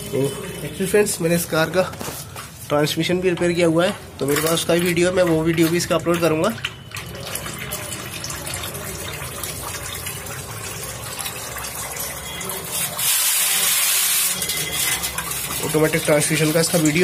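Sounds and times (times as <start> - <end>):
oil pouring and splashing: 0.0 - 17.0.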